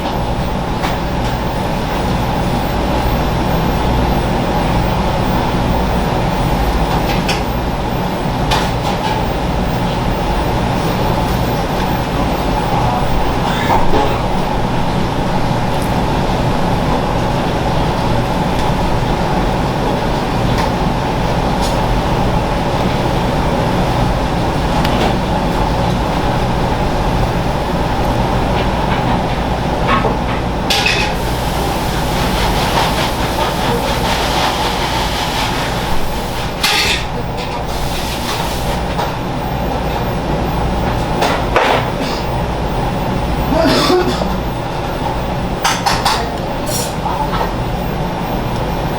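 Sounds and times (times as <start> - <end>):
loud mechanical rumble: 0.0 - 48.9.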